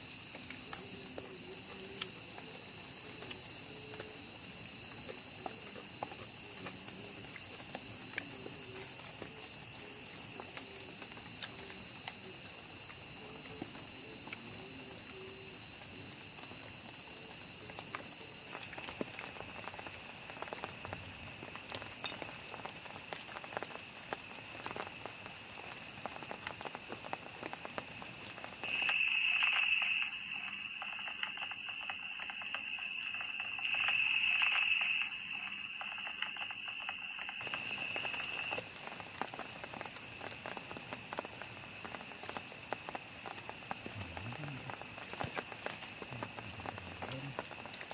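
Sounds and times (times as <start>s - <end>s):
high-pitched insect chorus: 0.0s - 47.9s
low insect drone: 0.0s - 47.9s
rain pattering on plastic tarp: 0.0s - 47.9s.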